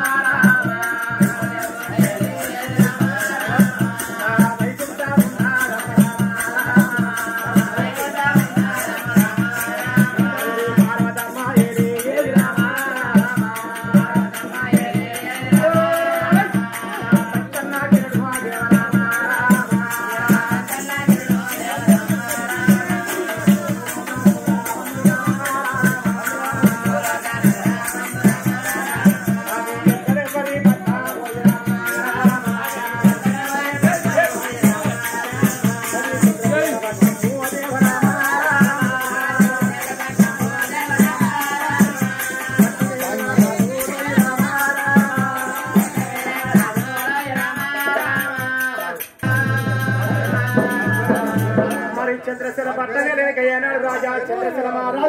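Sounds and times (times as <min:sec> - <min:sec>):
steady drum beat: 0:00.0 - 0:52.3
jingling rattle percussion: 0:00.0 - 0:54.5
person singing folk song: 0:00.0 - 0:55.0.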